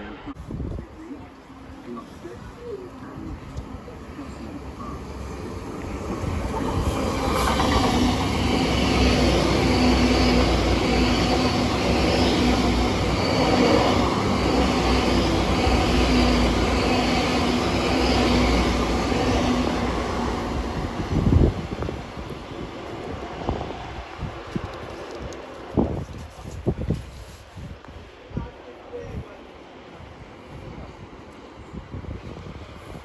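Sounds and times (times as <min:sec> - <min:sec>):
train passing at speed: 0:00.0 - 0:33.0.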